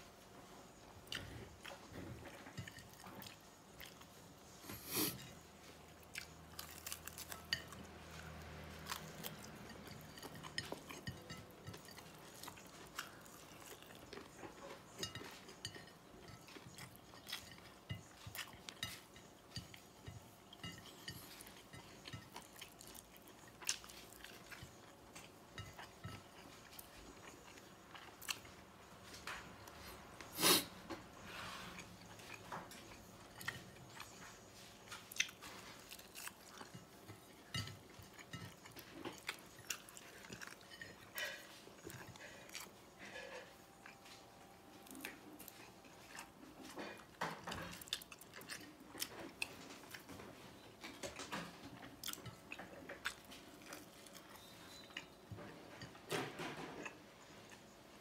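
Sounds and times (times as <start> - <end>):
person chewing food: 0.7 - 56.0.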